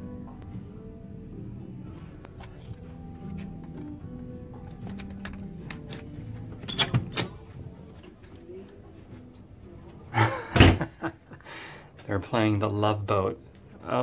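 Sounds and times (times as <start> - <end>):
faint television music: 0.0 - 14.0.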